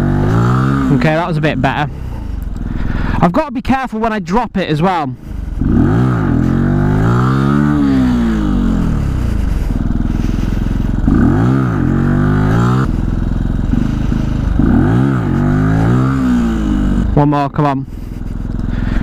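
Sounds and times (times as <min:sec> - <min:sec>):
motorcycle engine revving: 0:00.0 - 0:04.2, 0:04.9 - 0:19.0.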